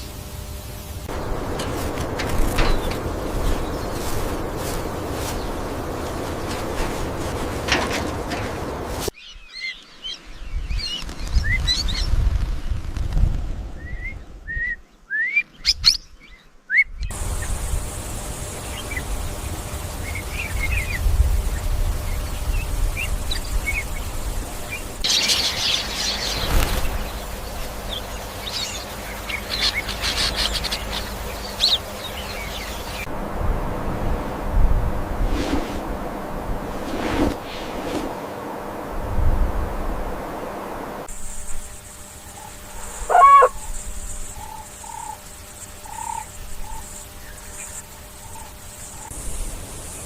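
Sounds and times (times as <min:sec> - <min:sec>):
small birds chirping: 0:00.0 - 0:12.8, 0:13.8 - 0:33.1, 0:41.1 - 0:50.0.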